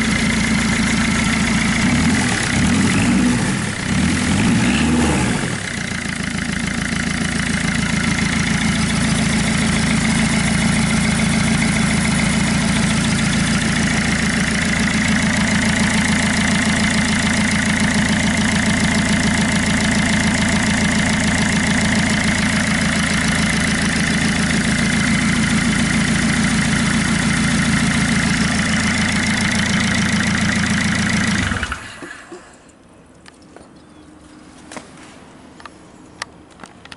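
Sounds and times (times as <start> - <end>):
diesel engine idling: 0.0 - 32.4.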